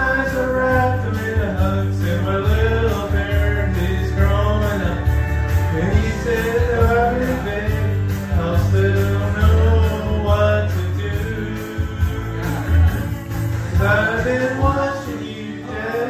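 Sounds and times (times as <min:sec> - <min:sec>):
backing track with bass line: 0:00.0 - 0:16.0
man singing into microphone: 0:00.0 - 0:16.0.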